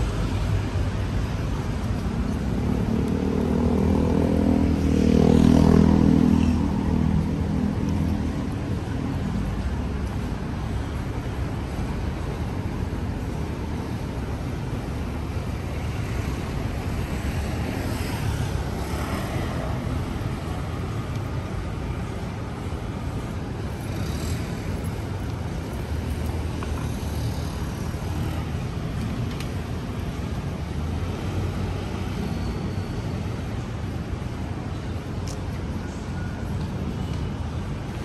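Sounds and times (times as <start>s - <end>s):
passing vehicles: 0.0s - 38.0s
road traffic: 0.0s - 38.0s.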